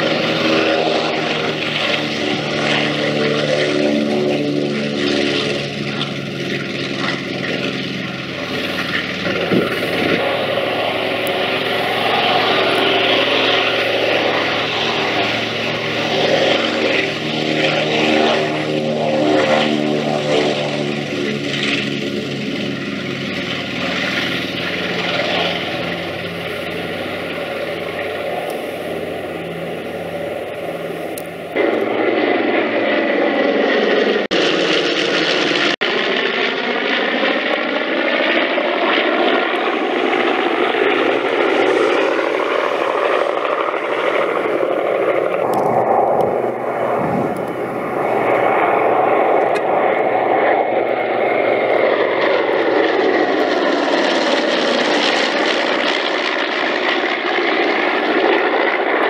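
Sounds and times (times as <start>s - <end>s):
propeller plane engines droning: 0.0s - 59.0s.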